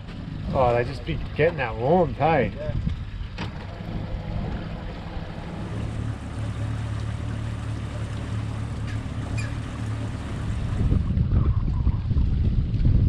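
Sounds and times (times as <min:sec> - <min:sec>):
outboard motor humming: 0:00.0 - 0:13.0
water washing past hull: 0:00.0 - 0:13.0
wind buffeting microphone: 0:00.0 - 0:13.0.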